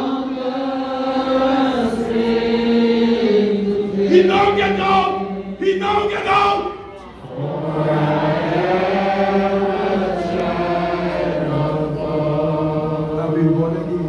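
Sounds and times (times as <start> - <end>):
group singing worship song: 0.0 - 14.0.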